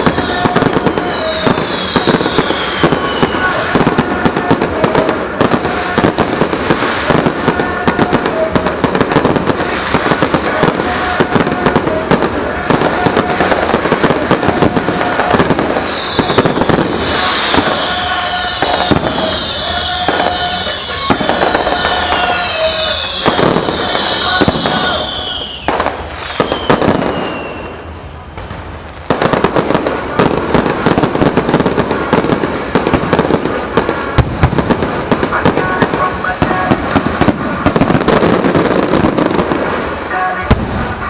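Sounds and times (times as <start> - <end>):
falling fireworks whistles: 0.0 - 41.0
fireworks crackling and banging: 0.0 - 41.0.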